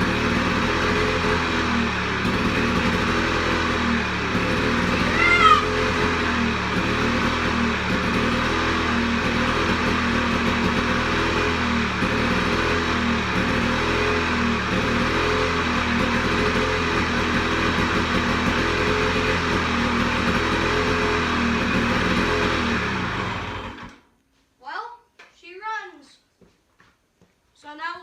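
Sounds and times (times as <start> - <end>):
lawn mower engine running: 0.0 - 24.1.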